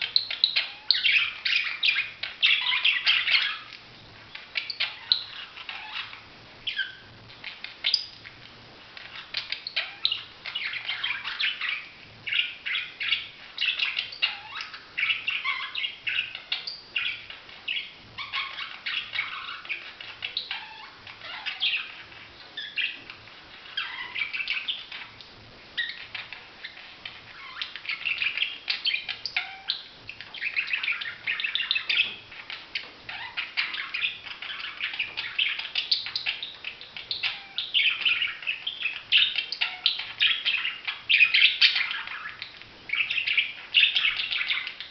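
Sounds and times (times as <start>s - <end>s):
budgerigar chirping and squeaking: 0.0s - 3.8s, 4.4s - 44.9s.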